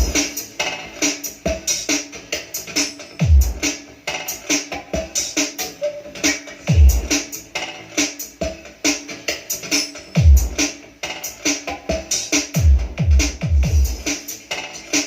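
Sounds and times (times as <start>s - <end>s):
electronic music with drum machine: 0.0s - 15.0s.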